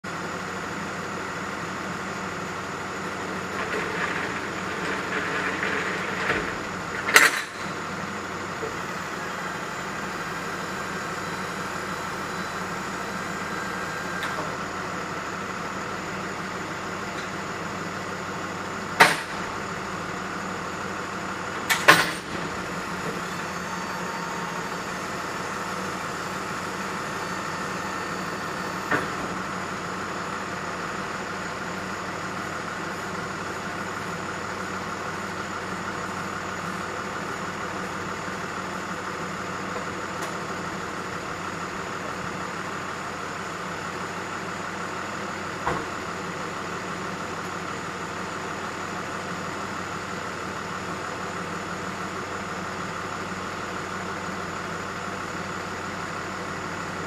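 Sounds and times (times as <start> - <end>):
truck idling: 0.0 - 57.0.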